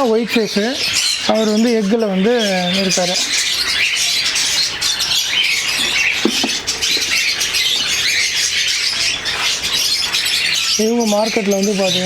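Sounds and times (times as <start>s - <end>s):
parrots chattering: 0.0s - 12.0s.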